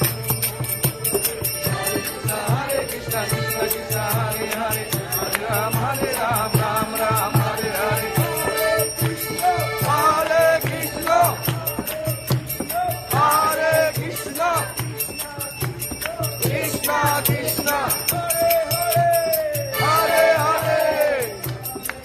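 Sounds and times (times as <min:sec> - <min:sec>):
drum beat: 0:00.0 - 0:20.0
jingling percussion: 0:00.0 - 0:22.0.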